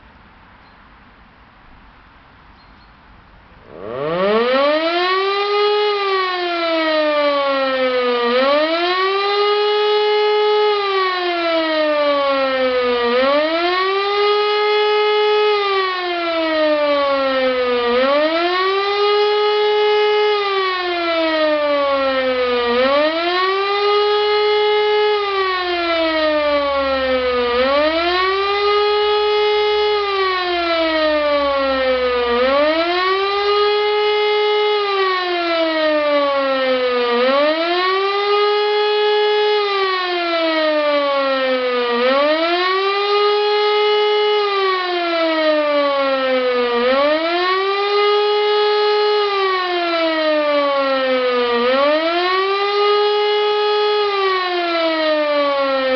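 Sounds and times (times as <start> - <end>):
motor siren wailing: 3.6 - 55.9.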